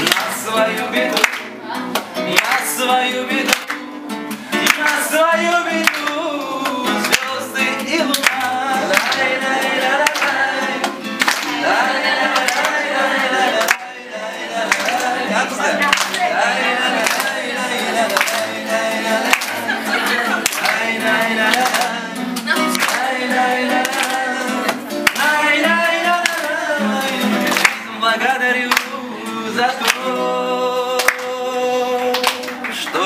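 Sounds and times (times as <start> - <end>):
acoustic guitar: 0.0 - 33.0
audience clapping along: 0.0 - 33.0
man singing: 0.0 - 33.0.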